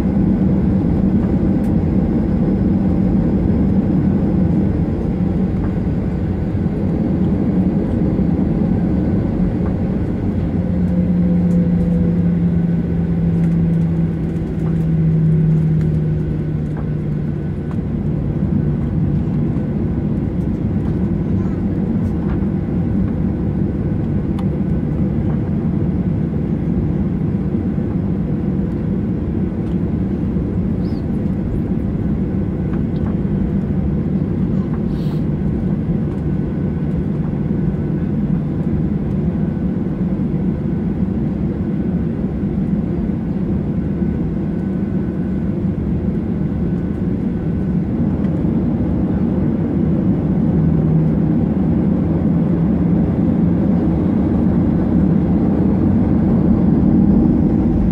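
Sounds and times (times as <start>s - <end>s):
jet engines droning in cabin: 0.0s - 57.9s.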